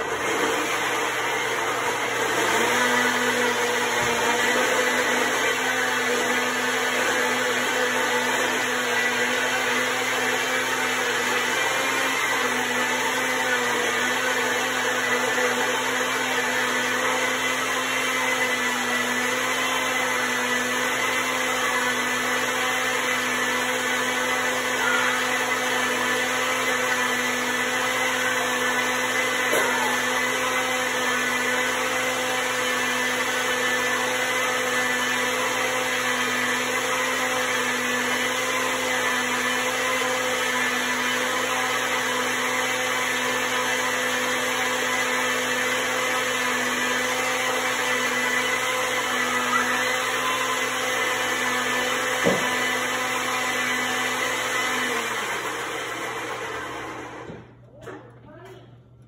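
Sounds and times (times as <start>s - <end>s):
blender grinder motor whine: 0.0s - 57.6s.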